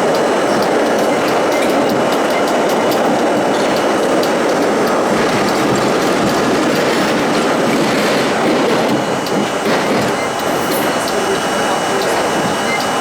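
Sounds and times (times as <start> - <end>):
rumble of wheels on track: 0.0 - 13.0
wheels clicking over rail joints: 0.0 - 13.0.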